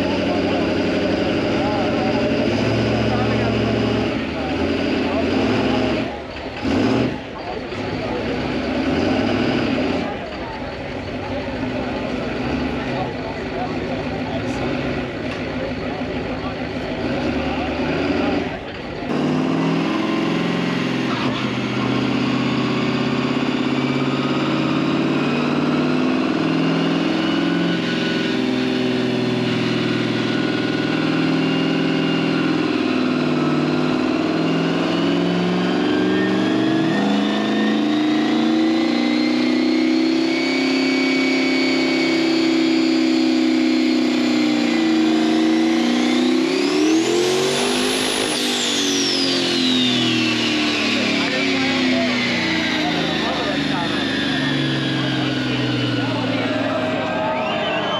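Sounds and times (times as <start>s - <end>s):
truck engine at high revs: 0.0s - 57.9s.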